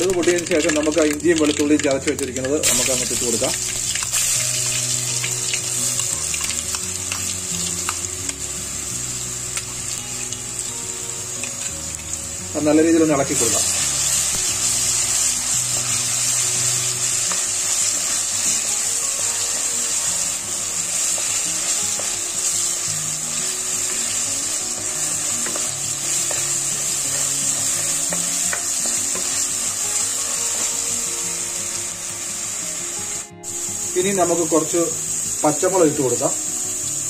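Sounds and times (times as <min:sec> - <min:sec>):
spices sizzling in hot oil: 0:00.0 - 0:37.0.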